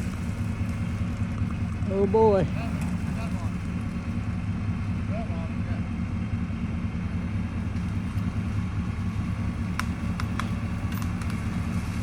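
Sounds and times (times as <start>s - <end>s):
tractor engine rumbling: 0.0s - 12.0s.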